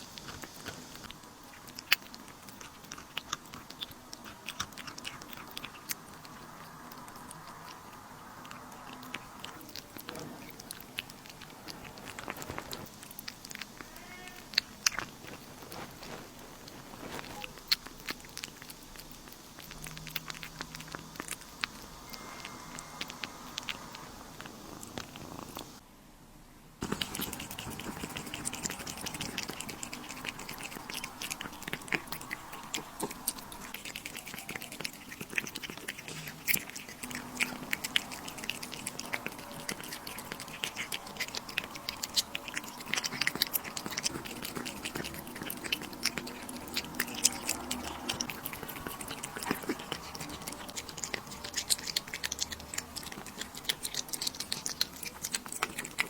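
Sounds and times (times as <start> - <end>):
animal chewing crunchy food: 0.0 - 25.8, 26.8 - 56.0.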